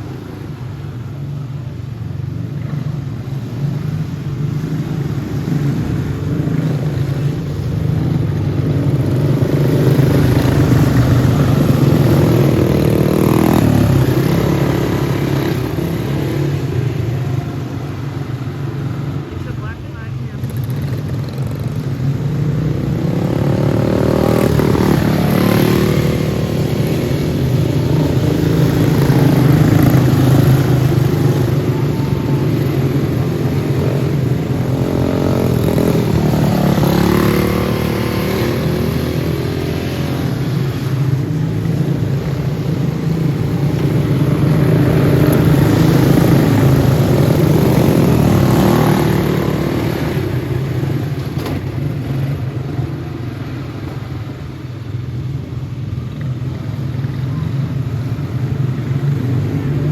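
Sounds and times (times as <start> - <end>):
go-kart engines racing past: 0.0 - 59.9.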